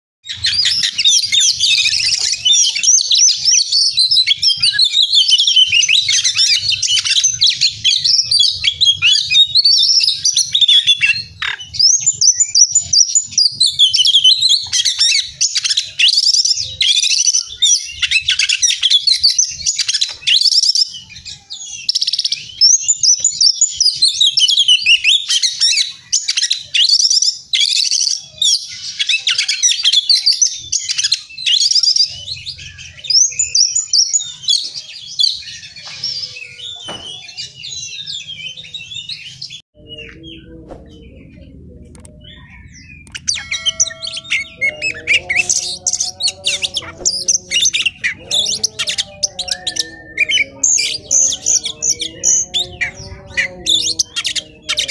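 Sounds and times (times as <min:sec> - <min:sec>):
bird song with whistles and trills: 0:00.2 - 0:54.9.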